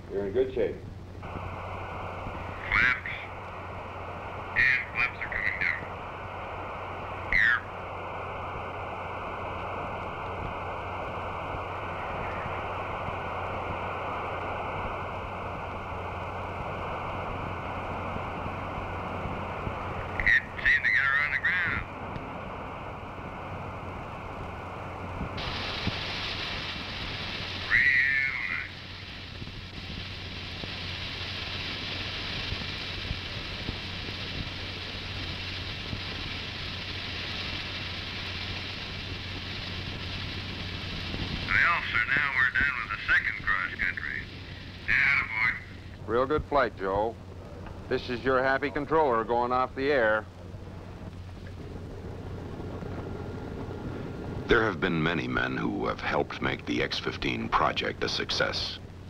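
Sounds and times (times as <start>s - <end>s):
radio channel hiss: 0.0s - 59.0s.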